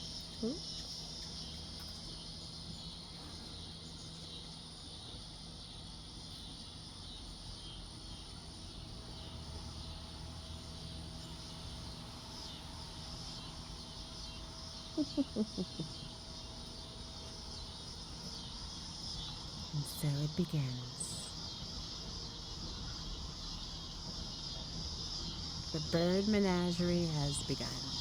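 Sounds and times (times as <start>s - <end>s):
insect chorus buzzing: 0.0s - 28.0s
low background rumble: 3.6s - 28.0s.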